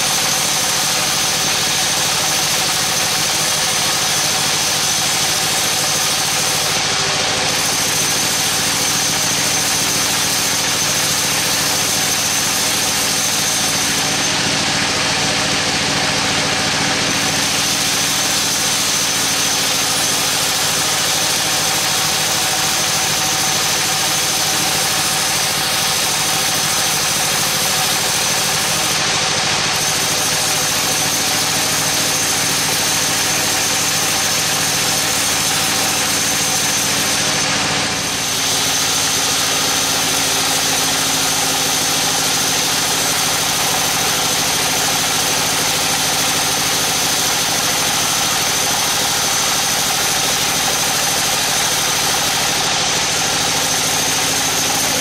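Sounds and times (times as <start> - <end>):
bandsaw sawing log with whine: 0.0 - 55.0.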